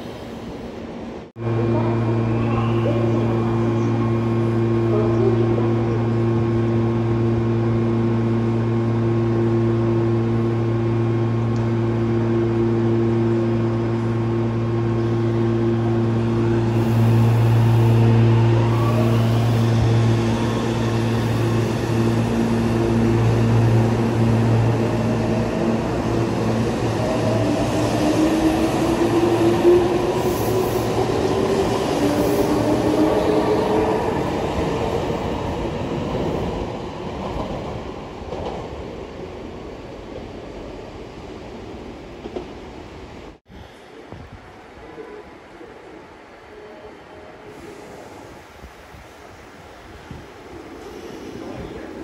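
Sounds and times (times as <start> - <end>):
electric train multi-tone hum: 0.0 - 52.0.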